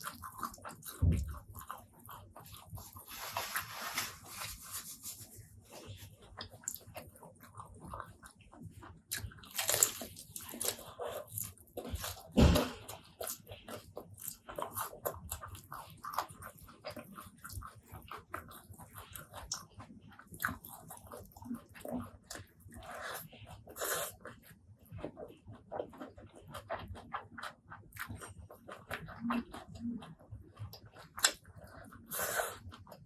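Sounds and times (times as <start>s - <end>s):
person chewing: 0.0s - 33.0s.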